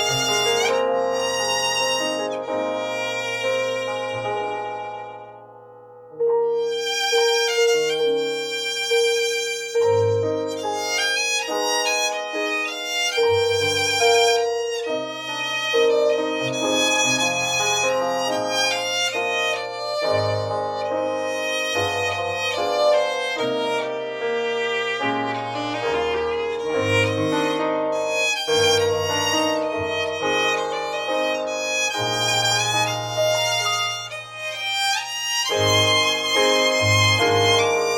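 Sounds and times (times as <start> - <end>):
low musical accompaniment: 0.0 - 5.5, 6.2 - 37.9
violin melody: 0.0 - 5.5, 6.1 - 37.9.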